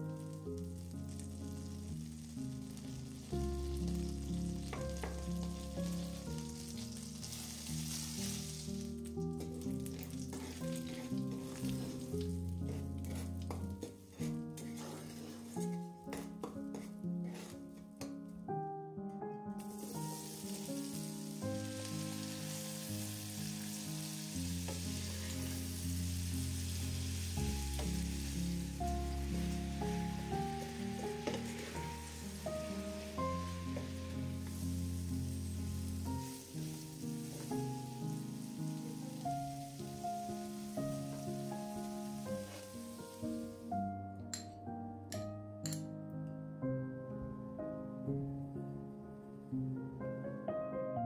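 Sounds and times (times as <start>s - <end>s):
food sizzling in a pan: 0.0s - 17.6s, 19.6s - 44.5s
instrumental background music: 0.0s - 51.0s.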